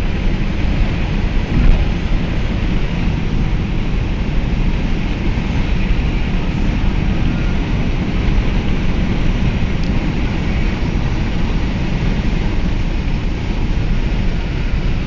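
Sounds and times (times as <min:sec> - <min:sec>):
car driving on highway: 0:00.0 - 0:15.0.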